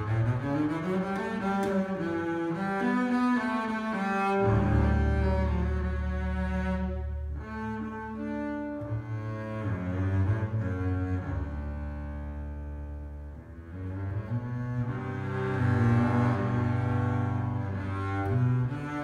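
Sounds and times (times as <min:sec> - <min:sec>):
bowed double bass: 0:00.0 - 0:19.0.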